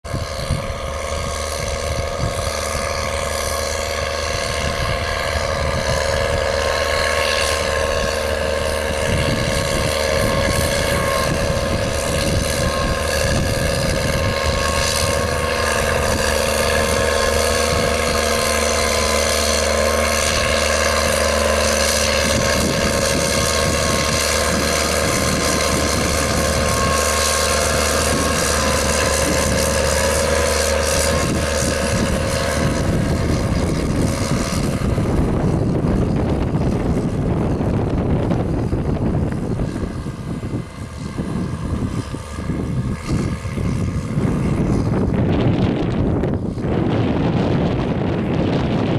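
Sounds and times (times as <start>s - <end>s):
tractor diesel engine under load: 0.0s - 48.9s.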